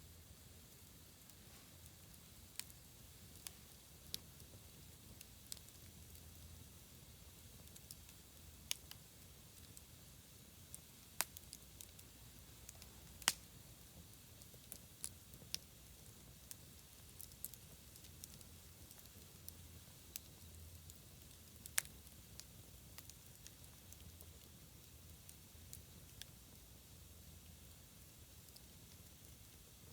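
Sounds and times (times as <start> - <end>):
campfire crackling and popping: 0.4 - 29.9.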